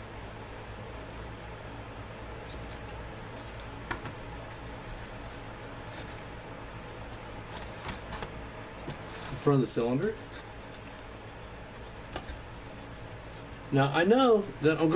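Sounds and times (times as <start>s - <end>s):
brush scratching metal: 0.0s - 3.6s, 4.4s - 7.2s, 9.1s - 14.9s
steady low hum: 0.0s - 14.9s.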